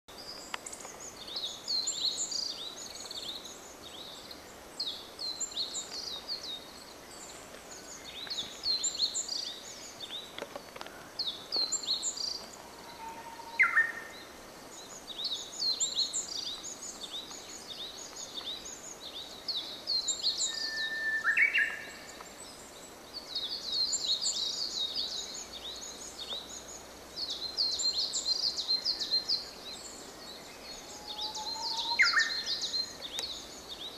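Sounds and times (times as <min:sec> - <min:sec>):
songbirds chirping: 0:00.1 - 0:33.9
warbler song: 0:00.1 - 0:33.9.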